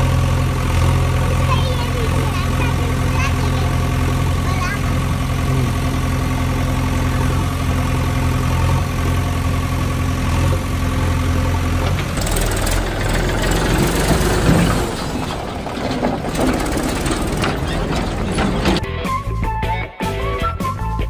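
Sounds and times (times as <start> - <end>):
diesel engine idling: 0.0 - 18.9
rough noisy rumble: 0.0 - 18.9.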